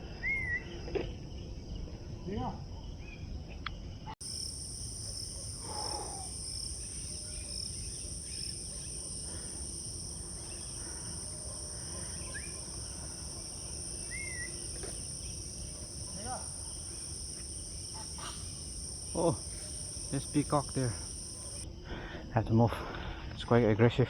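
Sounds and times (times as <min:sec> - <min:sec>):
crickets chorus: 0:00.0 - 0:24.0.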